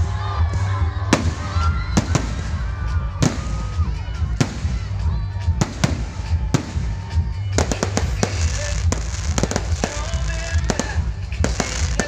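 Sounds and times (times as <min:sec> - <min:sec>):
fireworks bangs and cracks: 0:00.8 - 0:12.0.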